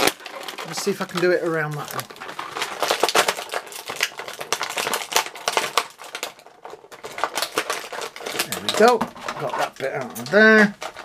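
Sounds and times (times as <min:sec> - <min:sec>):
scissors snipping plastic: 0:00.0 - 0:06.4, 0:07.0 - 0:11.0
plastic tray crinkling: 0:00.0 - 0:11.0.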